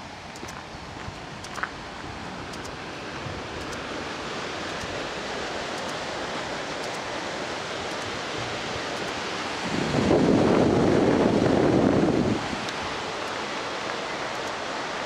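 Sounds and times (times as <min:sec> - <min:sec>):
water rushing at a canal lock: 0:00.0 - 0:15.0.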